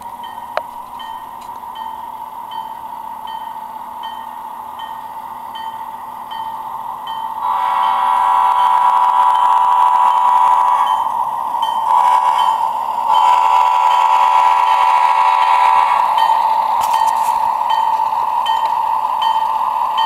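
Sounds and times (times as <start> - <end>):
model locomotive bell ringing: 0.0 - 20.0.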